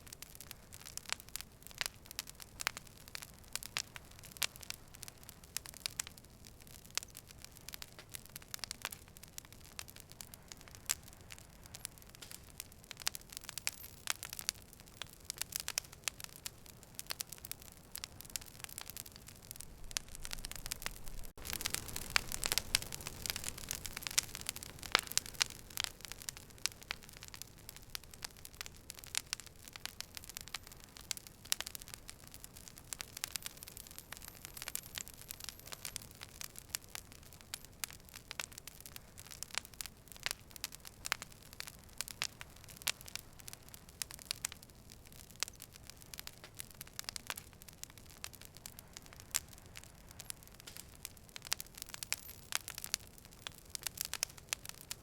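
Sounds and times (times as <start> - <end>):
low steady hiss: 0.0 - 55.0
wood fire crackling: 0.0 - 55.0.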